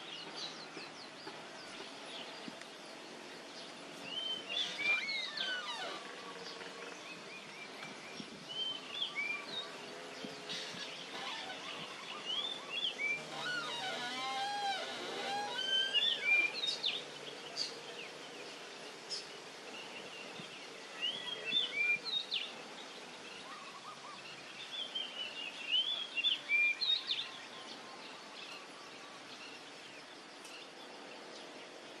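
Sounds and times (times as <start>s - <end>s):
outdoor background hiss: 0.0s - 32.0s
small birds chirping: 0.0s - 32.0s.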